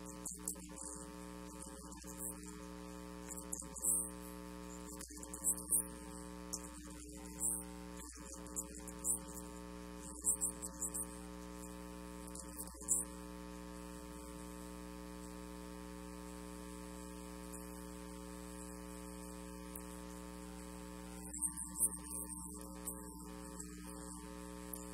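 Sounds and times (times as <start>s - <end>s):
electrical mains hum: 0.0s - 24.9s.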